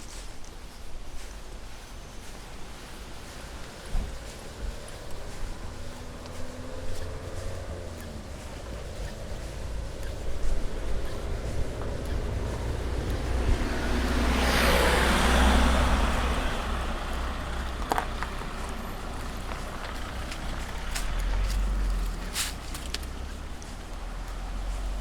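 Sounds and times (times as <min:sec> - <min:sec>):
car driving past: 0:02.3 - 0:25.0.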